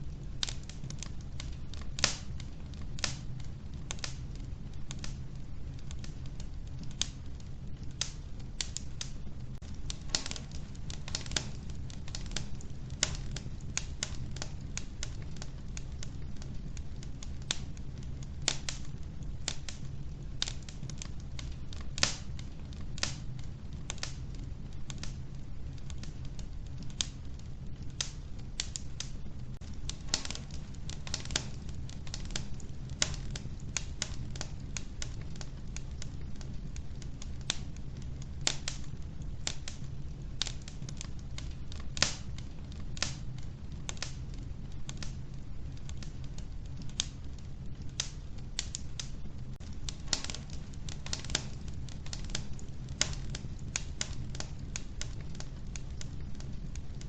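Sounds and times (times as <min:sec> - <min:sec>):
logs crackling in a stove: 0:00.0 - 0:57.0
low steady rumble: 0:00.0 - 0:57.0.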